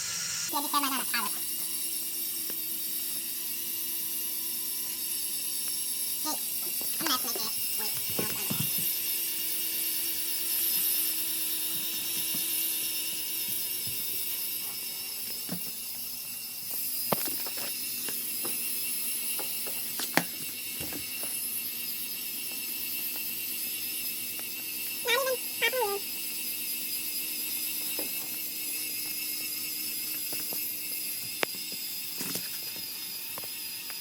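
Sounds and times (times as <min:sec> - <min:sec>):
small electric motors whining: 0:00.0 - 0:34.0.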